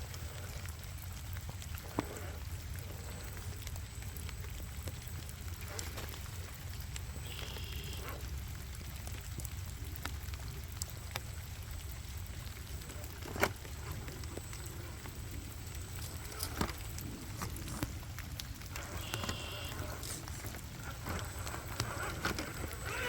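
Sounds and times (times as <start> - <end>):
steady low rumble: 0.0 - 22.9
small clicks and knocks on rock: 0.0 - 23.0.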